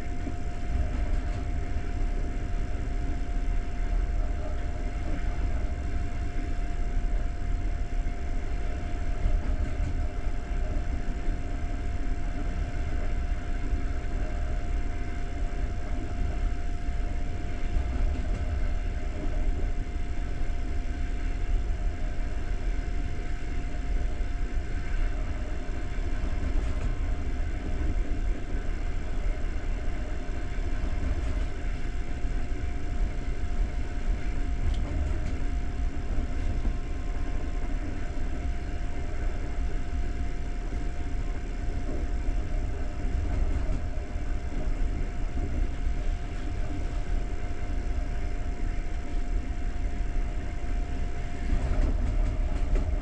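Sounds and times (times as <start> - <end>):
thin steady whine: 0.0 - 53.0
train wheels rumbling on rails: 0.0 - 53.0.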